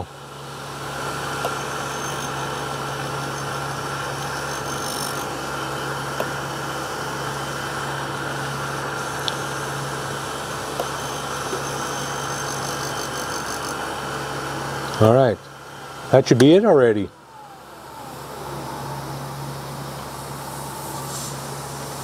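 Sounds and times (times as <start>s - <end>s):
grinding wheel motor humming: 0.0s - 22.0s.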